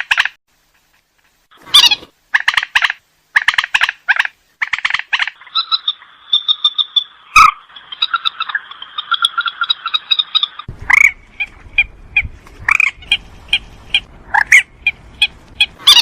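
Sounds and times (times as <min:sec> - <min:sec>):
rail bird calling: 0:01.5 - 0:16.0.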